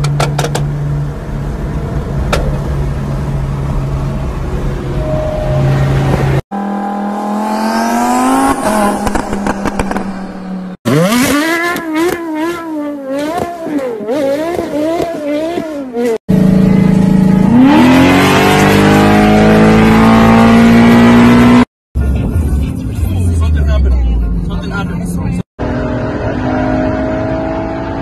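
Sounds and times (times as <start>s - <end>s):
car engine drone: 0.0s - 28.0s
sports car engine accelerating: 0.7s - 21.6s, 25.6s - 28.0s
car engine revving: 0.9s - 24.8s.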